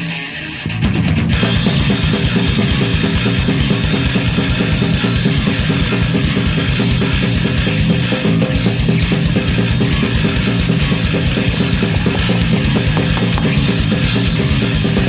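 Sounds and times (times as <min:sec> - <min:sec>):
distorted guitar: 0:00.0 - 0:15.0
punk band playing: 0:00.0 - 0:15.0
fast bass drum beats: 0:01.3 - 0:15.0.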